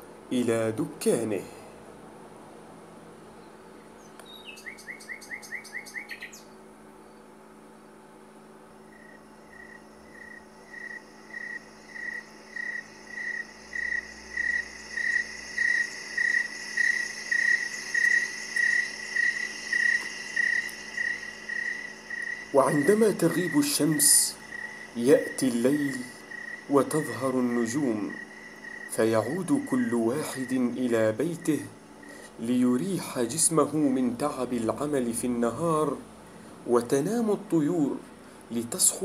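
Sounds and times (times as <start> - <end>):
faint high insect hiss: 0.0 - 39.0
cricket chirping: 3.6 - 7.4, 8.3 - 39.0.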